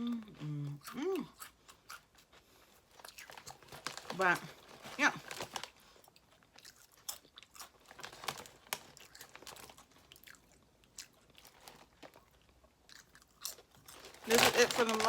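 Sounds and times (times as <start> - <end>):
person chewing crunchy chips: 0.0 - 15.0.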